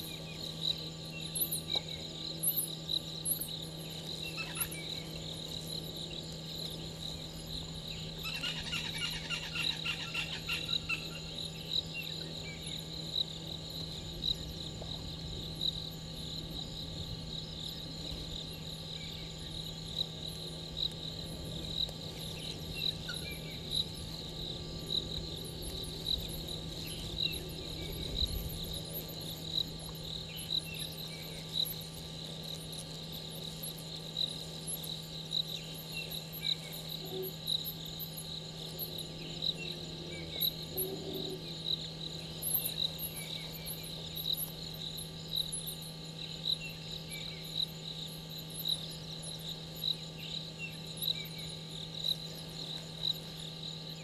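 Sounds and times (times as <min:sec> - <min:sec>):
cricket chirping: 0:00.0 - 0:54.0
high-pitched insect calls: 0:00.0 - 0:54.0.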